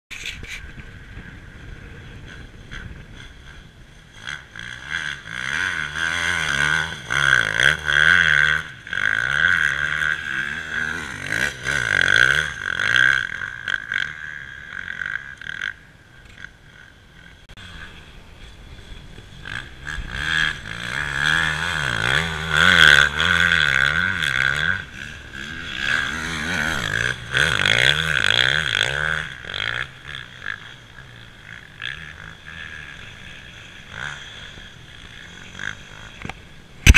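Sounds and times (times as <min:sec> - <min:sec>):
motocross bike engine revving: 0:00.2 - 0:36.9.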